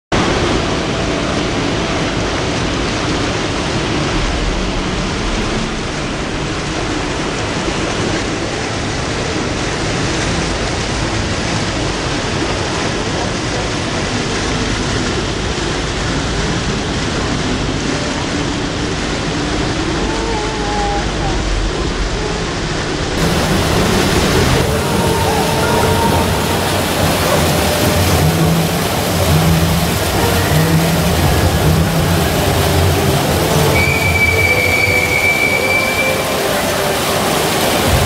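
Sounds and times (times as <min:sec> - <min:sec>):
splashing water rushing: 0:00.1 - 0:38.0
low rumble: 0:00.2 - 0:35.2.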